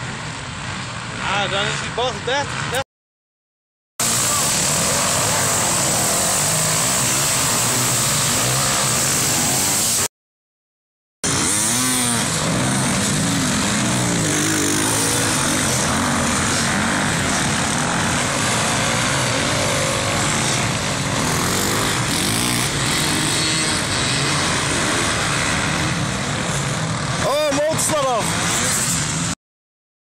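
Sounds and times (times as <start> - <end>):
motocross bike engines revving: 0.0 - 2.9, 4.0 - 10.1, 11.2 - 29.4.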